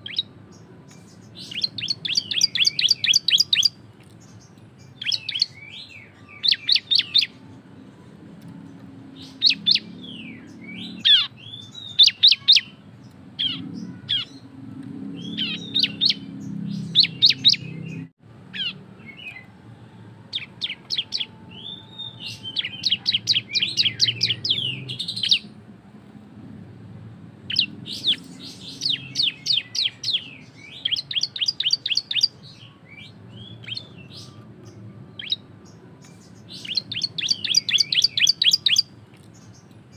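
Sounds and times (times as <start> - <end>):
bird singing rapid sharp notes: 0.0 - 8.1, 8.7 - 19.4, 20.3 - 25.6, 27.5 - 39.9.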